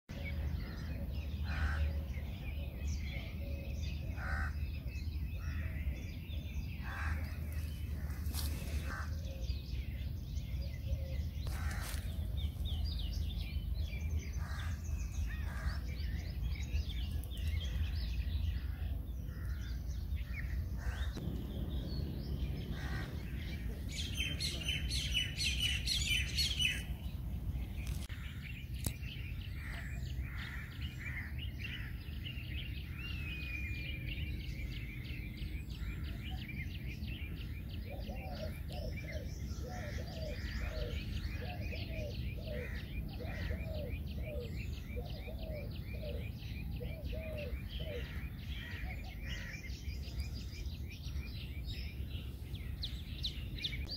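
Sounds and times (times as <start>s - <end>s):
songbirds chirping and singing: 0.0s - 53.9s
low outdoor background rumble: 0.1s - 53.9s.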